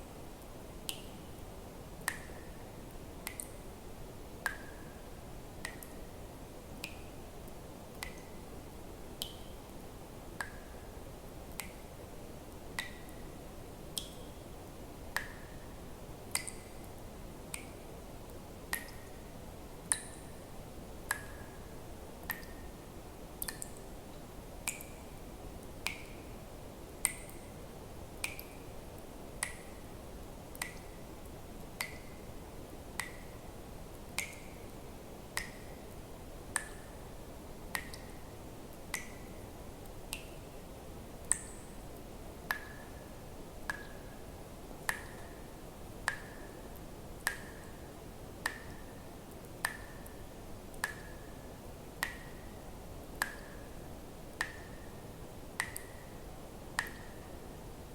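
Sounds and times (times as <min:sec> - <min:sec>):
faint steady hiss: 0:00.0 - 0:57.9.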